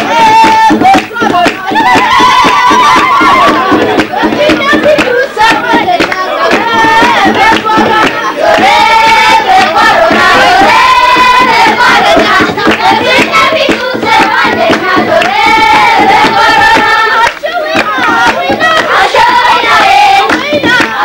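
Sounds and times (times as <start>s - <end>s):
crowd singing: 0.0s - 21.0s
hand-clapping: 0.0s - 21.0s.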